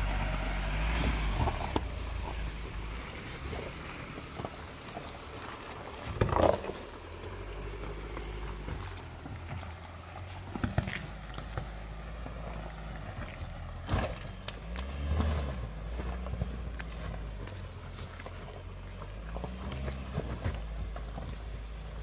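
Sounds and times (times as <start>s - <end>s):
low engine rumble: 0.0s - 22.0s
stones crunching under tyres: 0.0s - 22.0s
rocks knocking under tyres: 1.3s - 22.0s.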